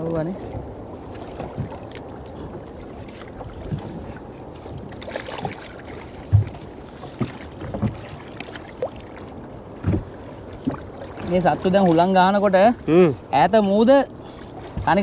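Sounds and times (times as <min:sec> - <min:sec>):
wind and sea rushing: 0:00.0 - 0:15.0.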